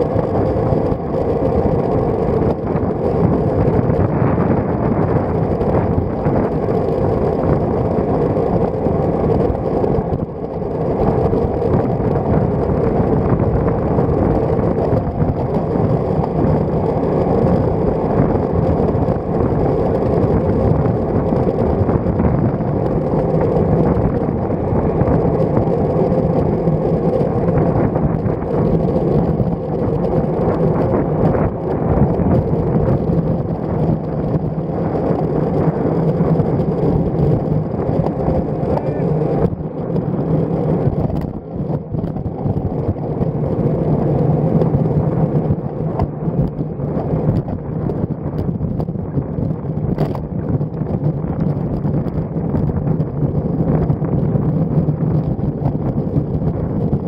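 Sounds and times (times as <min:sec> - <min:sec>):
wind rush and bicycle road noise: 0:00.0 - 0:57.0.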